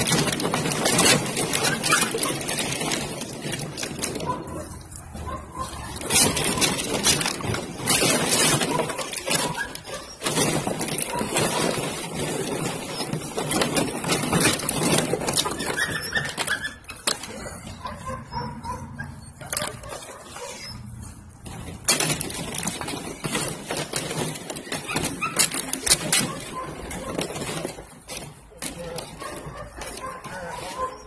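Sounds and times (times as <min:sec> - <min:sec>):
plastic bottles crinkling and rattling: 0:00.0 - 0:18.8, 0:19.4 - 0:31.0
puppies whimpering: 0:00.0 - 0:21.0, 0:22.6 - 0:27.6, 0:28.7 - 0:31.0.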